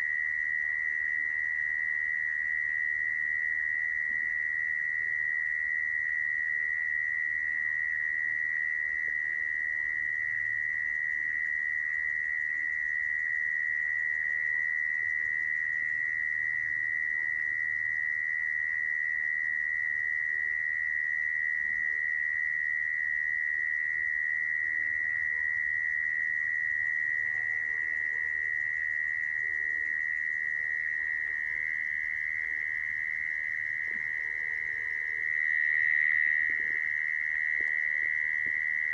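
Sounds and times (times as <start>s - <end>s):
mole cricket calling: 0.0s - 38.9s.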